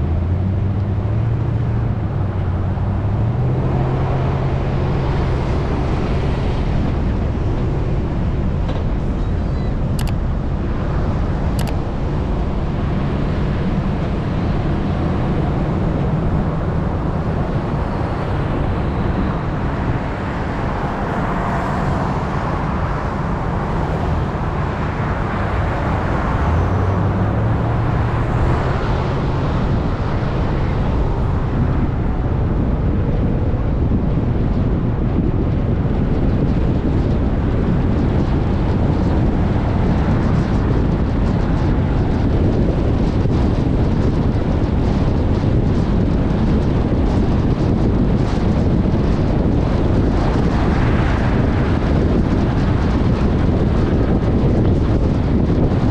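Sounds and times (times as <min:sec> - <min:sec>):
off-road vehicle engine: 0:00.0 - 0:55.9
wind rumble on microphone: 0:00.0 - 0:55.9.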